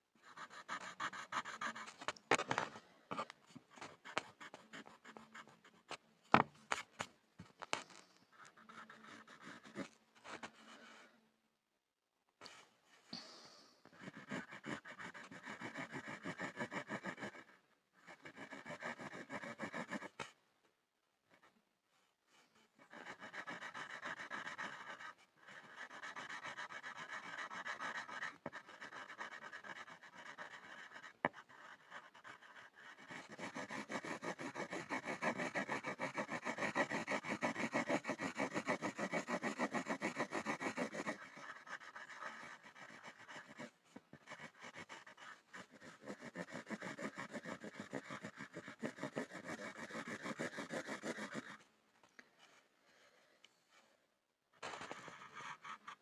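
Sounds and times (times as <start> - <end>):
pencil scribbling on wood: 0.2 - 6.1, 6.7 - 11.2, 13.9 - 20.4, 22.3 - 51.7, 54.9 - 56.0.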